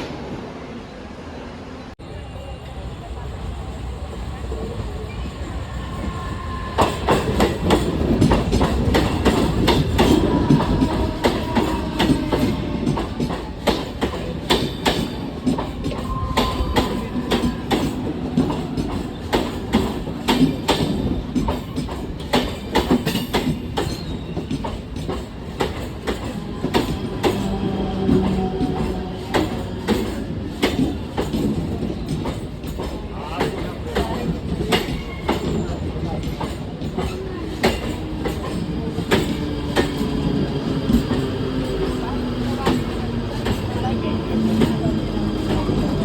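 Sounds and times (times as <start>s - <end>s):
train wheels clattering over rail joints: 6.8s - 46.0s.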